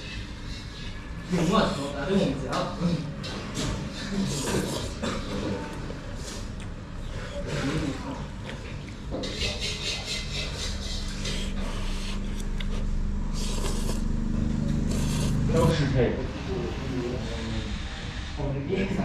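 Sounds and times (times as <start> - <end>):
indistinct voices: 0.0 - 19.0
low engine-like hum: 0.0 - 19.0.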